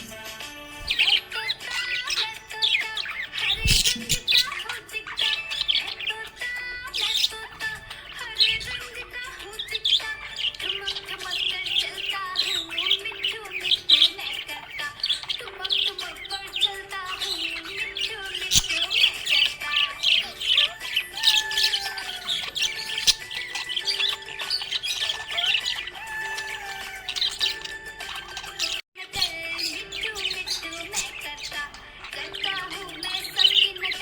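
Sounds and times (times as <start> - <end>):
budgerigars chirping and warbling: 0.0 - 34.0.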